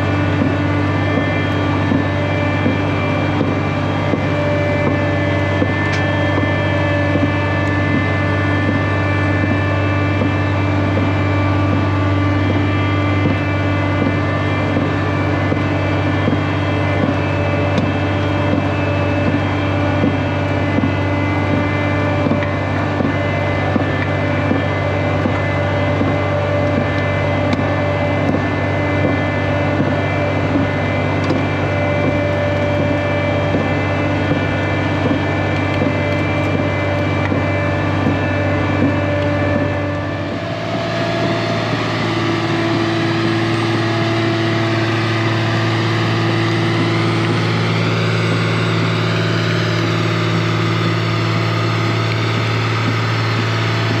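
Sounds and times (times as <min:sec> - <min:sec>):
large engine droning: 0:00.0 - 0:54.0.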